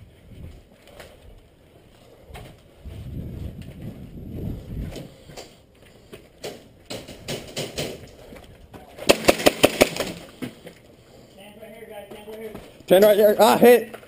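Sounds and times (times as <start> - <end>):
footsteps: 0.0 - 14.0.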